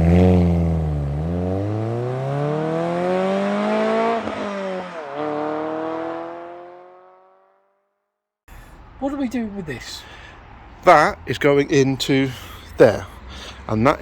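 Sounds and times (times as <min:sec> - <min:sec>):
car engine accelerating: 0:00.0 - 0:07.6, 0:08.5 - 0:14.0.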